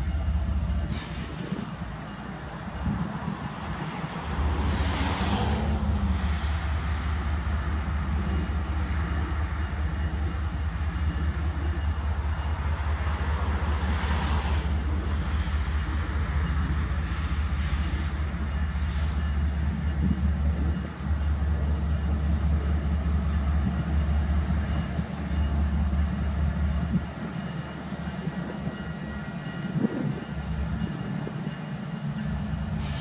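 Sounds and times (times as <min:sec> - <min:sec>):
distant freight train rumble: 0:00.0 - 0:33.0
passing road traffic: 0:00.0 - 0:33.0.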